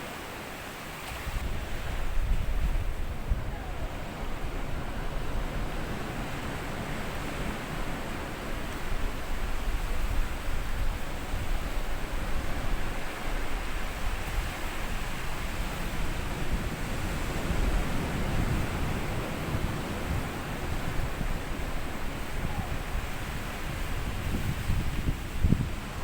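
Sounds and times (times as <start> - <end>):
small waves breaking on beach: 0.0 - 26.0.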